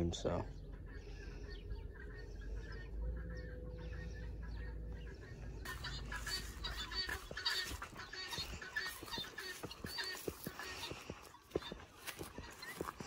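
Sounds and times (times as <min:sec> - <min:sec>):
low outdoor rumble: 0:00.0 - 0:13.0
faint bird calls: 0:00.1 - 0:13.0.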